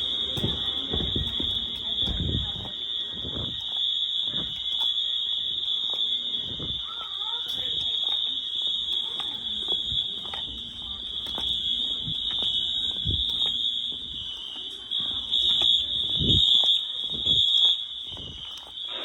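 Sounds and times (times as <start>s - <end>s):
pulsing fire alarm horns: 0.0s - 19.0s
steady high alarm horn tone: 0.0s - 19.0s.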